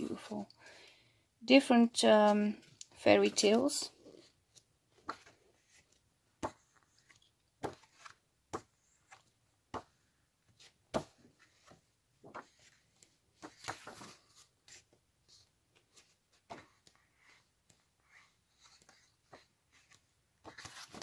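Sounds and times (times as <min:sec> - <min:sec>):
book pages turning: 0:02.2 - 0:21.0
page rustling: 0:02.2 - 0:21.0.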